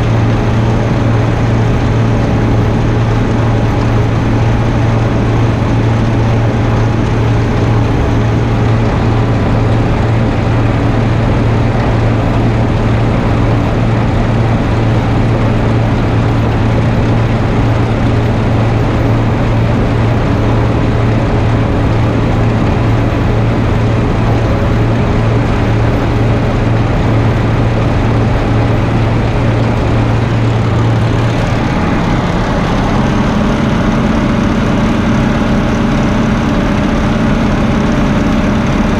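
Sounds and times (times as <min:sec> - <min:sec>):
heavy machinery engine droning: 0:00.0 - 0:38.9.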